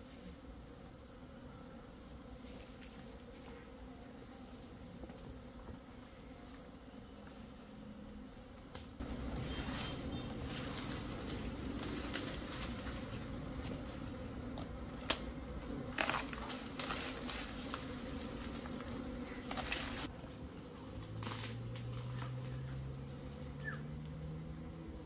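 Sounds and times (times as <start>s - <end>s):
bees buzzing: 0.0s - 25.0s
close bee buzz rising in pitch: 0.0s - 25.0s.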